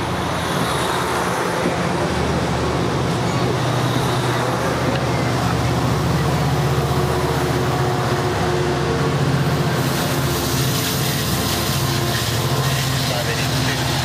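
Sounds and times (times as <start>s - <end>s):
diesel locomotive engine drone: 0.0s - 14.0s
rumble of rolling train cars: 0.0s - 14.0s.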